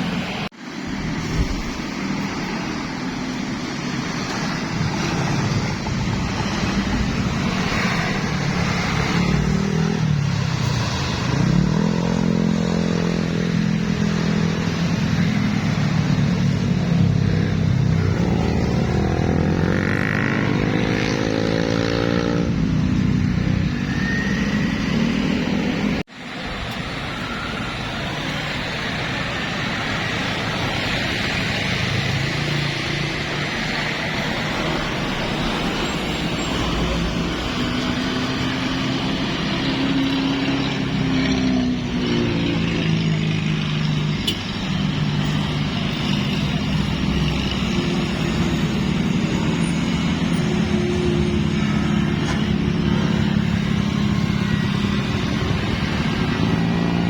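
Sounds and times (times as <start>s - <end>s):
bus diesel engines accelerating: 0.0s - 57.0s
road traffic noise: 0.0s - 57.0s.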